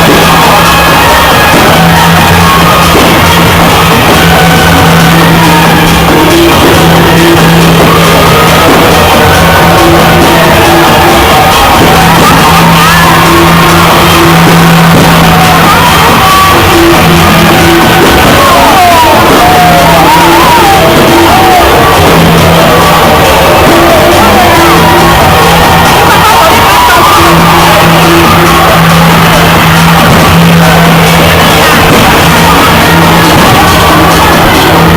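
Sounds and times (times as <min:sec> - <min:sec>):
loud distorted music: 0:00.0 - 0:34.9
people shouting: 0:00.0 - 0:34.9.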